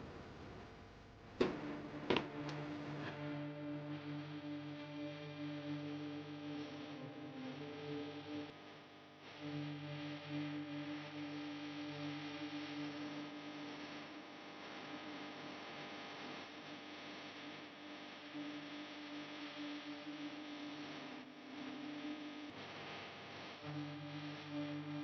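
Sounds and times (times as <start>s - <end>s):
droning background music: 1.4s - 15.8s, 17.5s - 25.0s.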